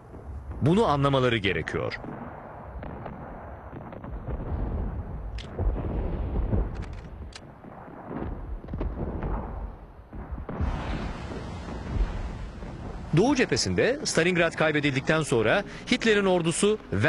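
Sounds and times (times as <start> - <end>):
distant artillery booms: 0.0 - 14.6.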